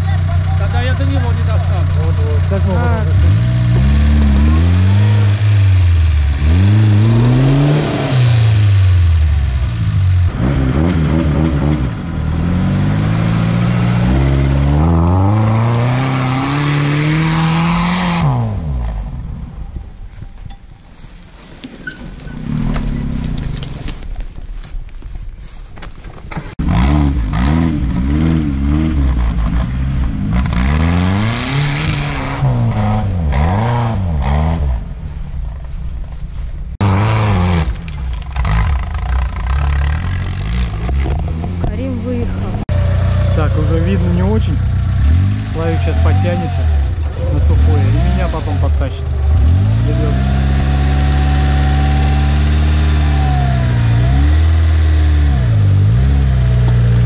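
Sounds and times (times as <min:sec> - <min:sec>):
vehicle engine revving under load: 0:00.0 - 0:19.4, 0:26.5 - 0:57.0.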